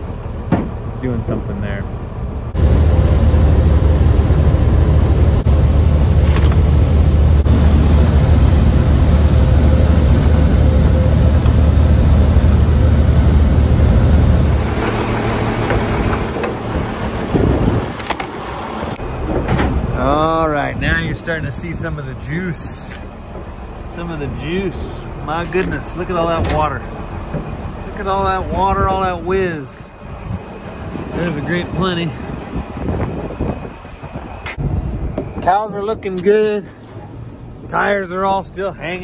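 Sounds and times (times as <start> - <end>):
road and wind rush: 0.0 - 39.0
truck engine drone: 0.0 - 39.0.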